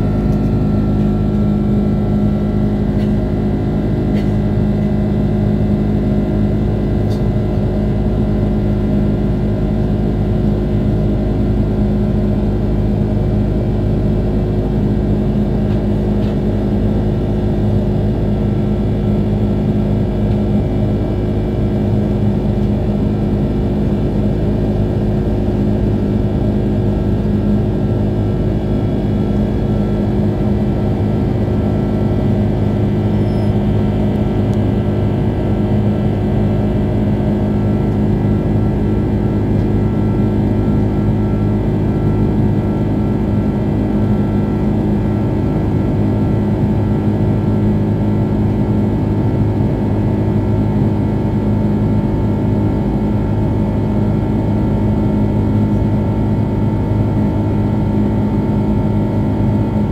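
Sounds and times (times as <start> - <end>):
aircraft cabin engine drone: 0.0 - 59.9.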